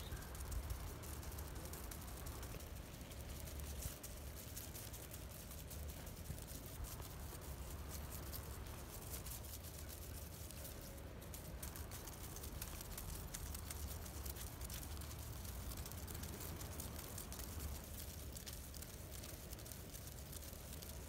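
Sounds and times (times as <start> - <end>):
dry leaf scraping on pavement: 0.0 - 21.0
steady low rumble: 0.0 - 21.0.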